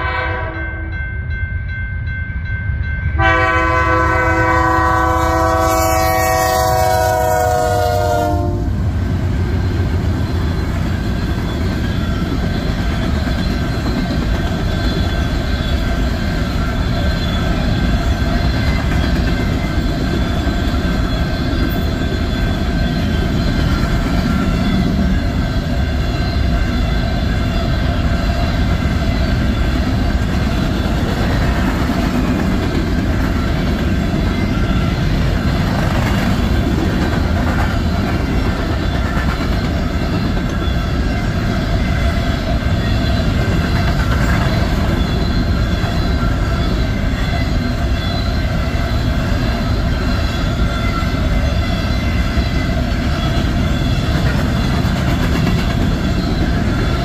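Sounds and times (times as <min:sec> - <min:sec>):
train wheels rumbling on rail: 0:02.4 - 0:57.0.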